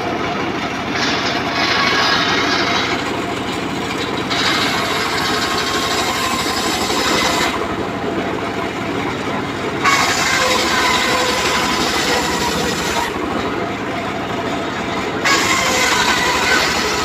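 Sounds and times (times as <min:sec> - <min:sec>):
engine pulsing: 0:00.0 - 0:17.0
saw blade whining through wood: 0:00.0 - 0:17.0.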